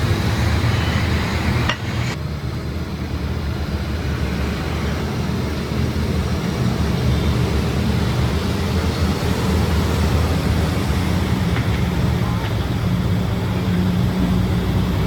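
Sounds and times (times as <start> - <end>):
machinery running with rumble and hiss: 0.0 - 15.0.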